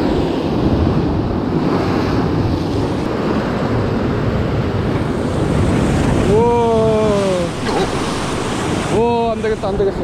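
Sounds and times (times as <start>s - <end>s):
surf crashing on rocks: 0.0s - 10.0s
wind buffeting microphone: 0.0s - 10.0s.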